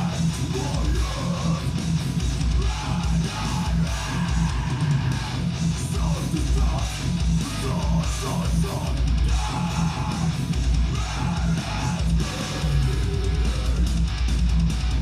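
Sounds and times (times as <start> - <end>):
distorted electric guitar riffing: 0.0 - 15.0.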